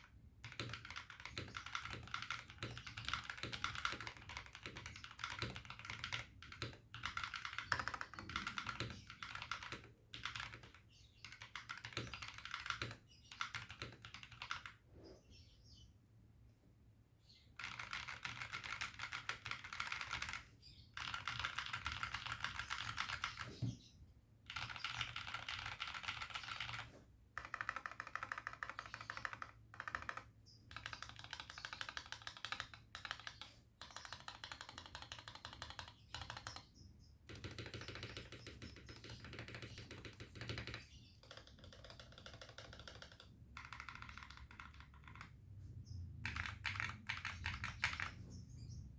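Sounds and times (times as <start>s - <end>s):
fast mechanical keyboard typing: 0.0s - 14.8s, 17.6s - 23.5s, 24.5s - 45.4s, 46.1s - 48.2s.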